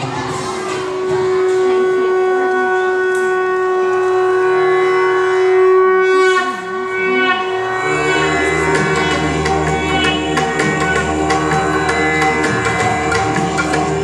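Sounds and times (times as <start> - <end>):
wind instrument long note: 0.0 - 14.0
low drone: 0.2 - 14.0.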